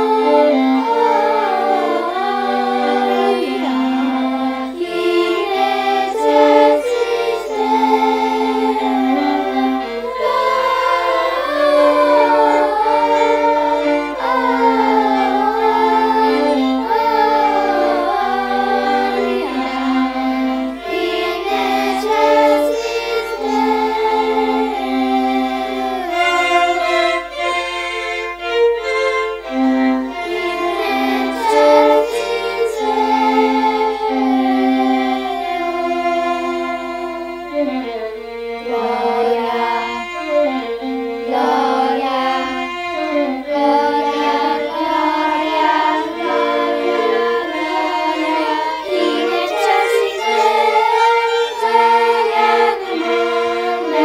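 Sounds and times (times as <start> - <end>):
children's choir singing: 0.0 - 54.0
violin accompaniment: 0.0 - 54.0.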